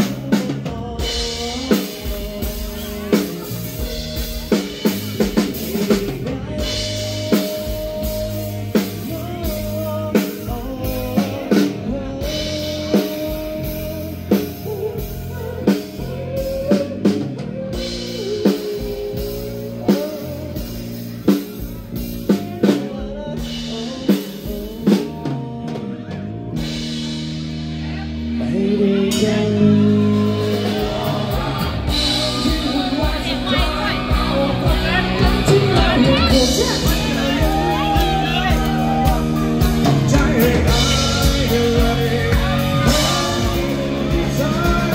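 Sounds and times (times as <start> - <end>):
drum kit beat: 0.0 - 44.9
electric bass: 0.0 - 44.9
man singing: 0.0 - 44.9.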